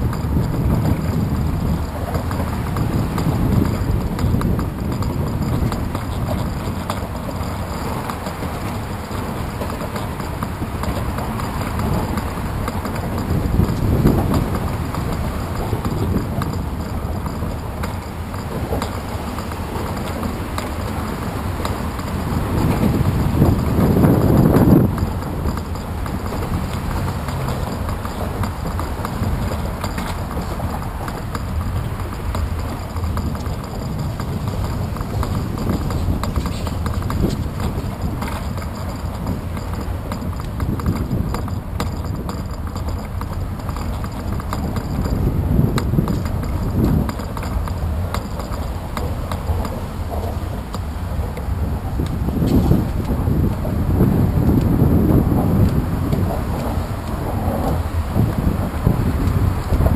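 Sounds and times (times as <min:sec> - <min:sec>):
bicycle rumble on concrete: 0:00.0 - 0:59.9
small rattling knocks: 0:00.0 - 0:59.9
wind noise: 0:00.0 - 0:59.9.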